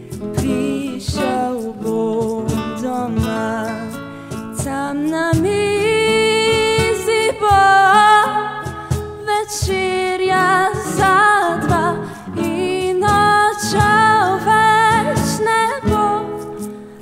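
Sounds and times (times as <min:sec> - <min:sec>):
person singing with vibrato: 0:00.0 - 0:17.0
strummed acoustic guitar: 0:00.0 - 0:17.0.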